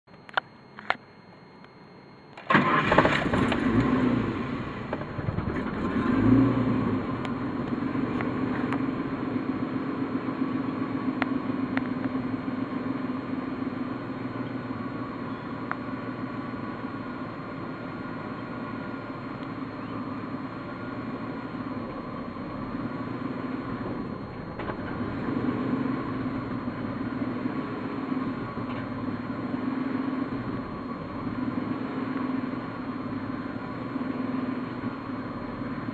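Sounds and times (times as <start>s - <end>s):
car engine starting: 2.4s - 35.9s
car engine idling roughly: 4.6s - 6.0s, 7.0s - 25.2s, 25.8s - 35.9s.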